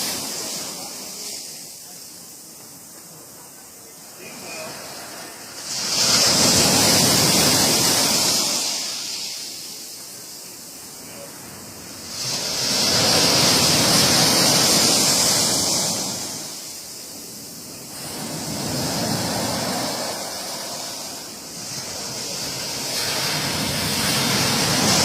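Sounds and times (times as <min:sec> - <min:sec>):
sea waves breaking: 0:00.0 - 0:25.0.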